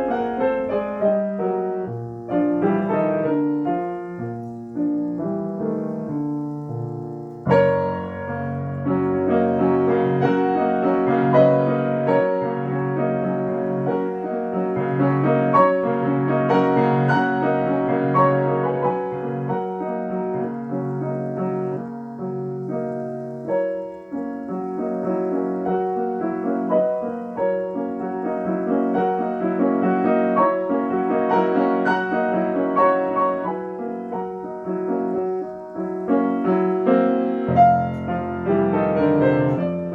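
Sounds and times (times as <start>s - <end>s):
solo classical piano: 0.0s - 39.9s.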